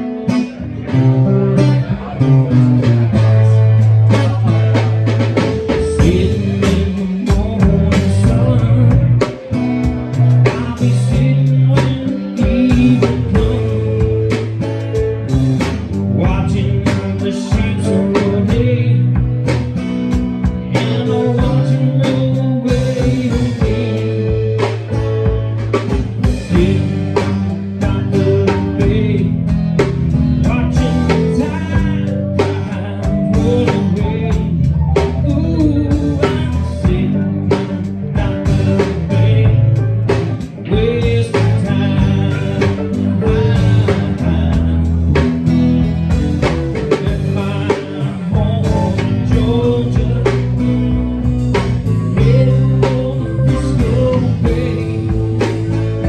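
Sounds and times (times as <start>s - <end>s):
band playing: 0.0s - 56.0s
bass line: 0.0s - 56.0s.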